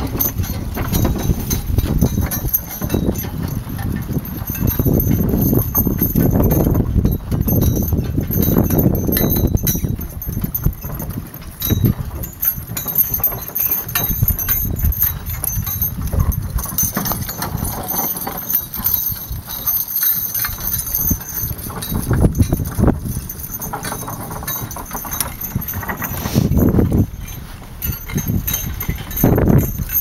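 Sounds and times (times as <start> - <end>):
harness chains rattling and jingling: 0.0 - 30.0.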